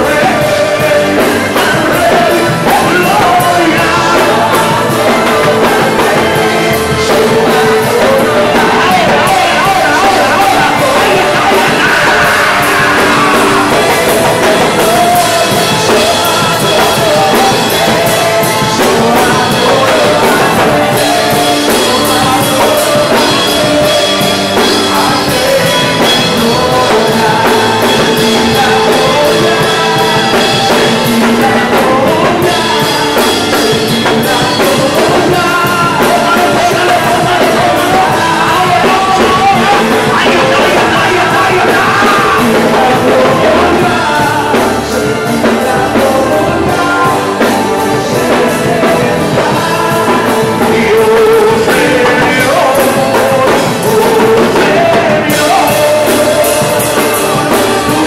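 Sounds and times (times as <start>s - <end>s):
band playing worship music: 0.0s - 58.0s
man singing into a microphone: 0.0s - 58.0s.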